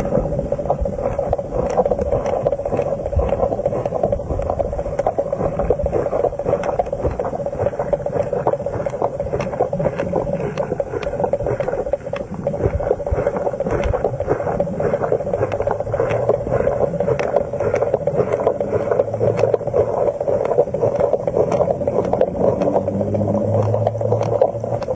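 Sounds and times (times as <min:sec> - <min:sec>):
crackling clicks: 0:00.0 - 0:24.9
low rumble: 0:00.0 - 0:24.9
underwater hum: 0:00.0 - 0:24.9.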